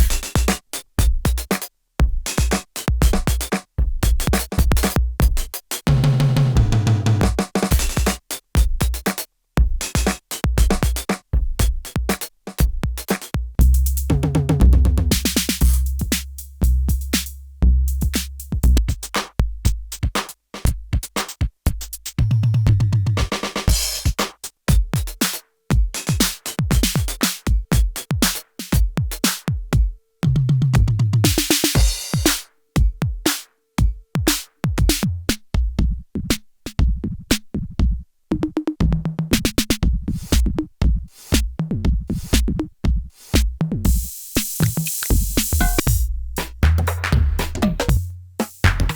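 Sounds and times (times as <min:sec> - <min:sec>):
drum machine pattern: 0:00.0 - 0:48.9.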